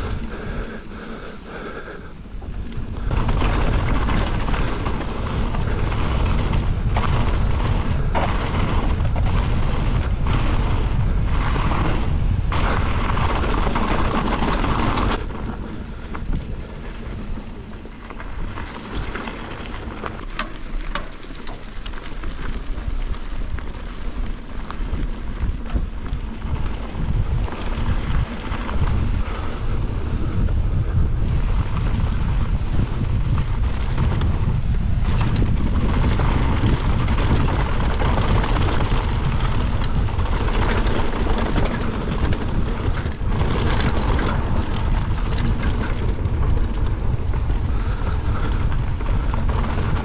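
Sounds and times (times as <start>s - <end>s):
bike clicks and rattles: 0.0s - 50.0s
bike tyres rumbling on dirt: 0.0s - 50.0s
wind buffeting microphone: 0.0s - 50.0s.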